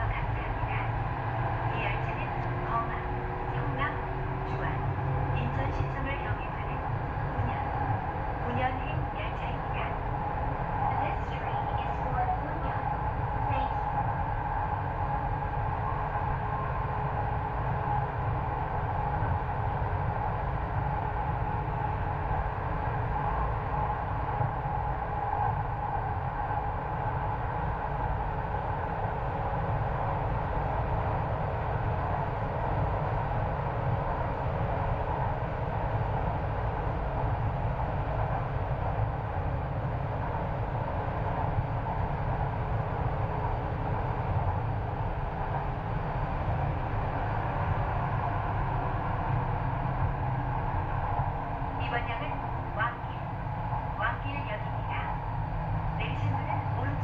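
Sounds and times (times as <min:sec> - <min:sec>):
train rumbling inside carriage: 0:00.0 - 0:57.0.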